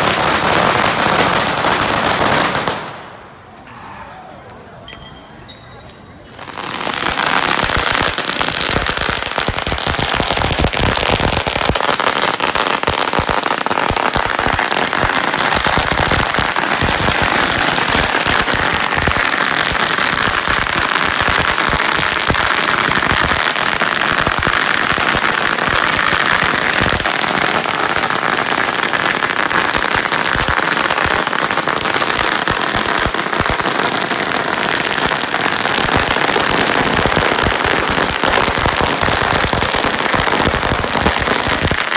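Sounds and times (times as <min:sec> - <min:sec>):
firecrackers exploding: 0:00.0 - 0:03.3, 0:06.3 - 0:41.9.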